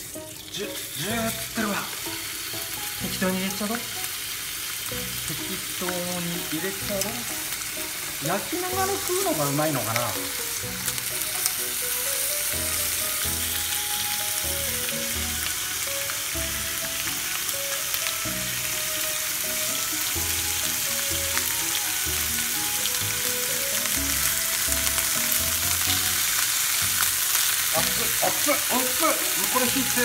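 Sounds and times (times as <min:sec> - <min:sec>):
faint background music: 0:00.0 - 0:26.2, 0:27.7 - 0:30.0
meat sizzling in oil: 0:00.0 - 0:30.0.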